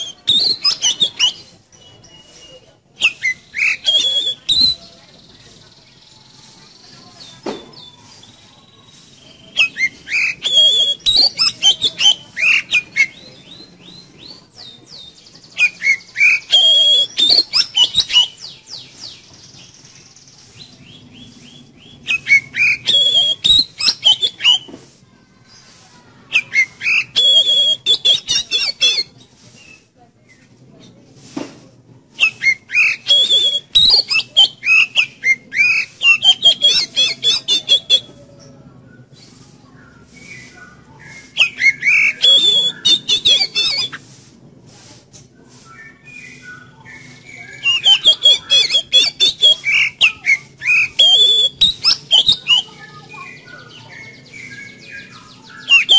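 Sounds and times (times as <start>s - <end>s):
bird singing whistled phrases: 0.0s - 24.7s, 26.3s - 30.5s, 32.2s - 44.0s, 45.6s - 55.9s.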